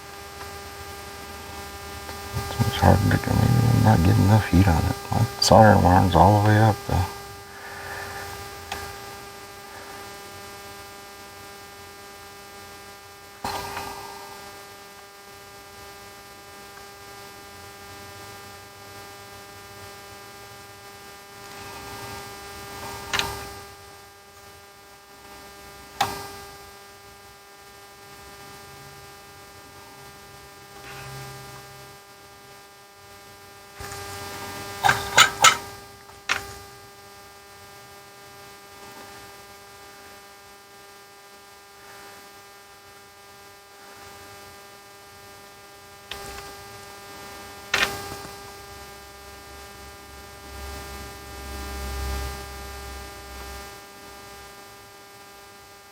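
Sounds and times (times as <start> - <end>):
steady electrical hum: 0.0 - 55.9.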